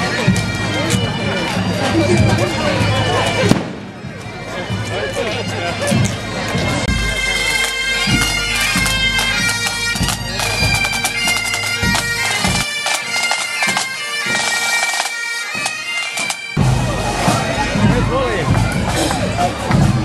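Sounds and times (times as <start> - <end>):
bagpipes playing melody over drone: 0.0 - 20.0
drums beating: 0.0 - 20.0.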